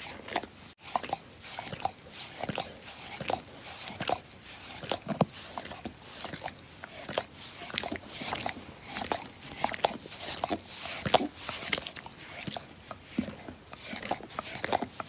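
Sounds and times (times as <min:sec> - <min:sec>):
dog licking: 0:00.0 - 0:15.0.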